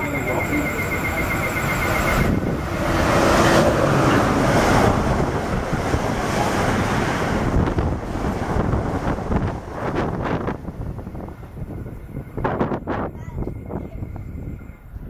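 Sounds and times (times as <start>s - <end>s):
passenger train passing at speed: 0.0s - 15.0s
wind buffeting microphone: 0.0s - 15.0s.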